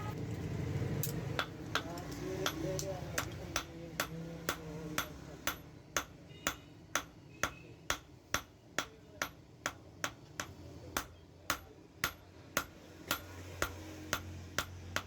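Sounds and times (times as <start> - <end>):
hammer striking metal on anvil: 1.4 - 15.0.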